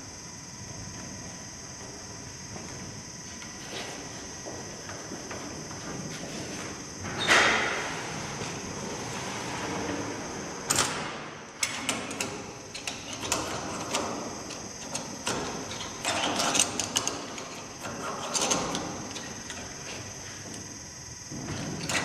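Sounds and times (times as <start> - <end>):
steady high-pitched whine: 0.0 - 22.0.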